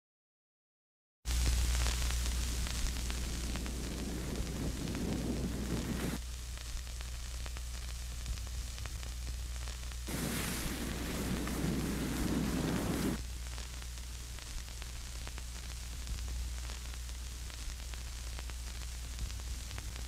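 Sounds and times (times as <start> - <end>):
low electrical hum: 1.3 - 20.0
static hiss and crackle: 1.3 - 20.0.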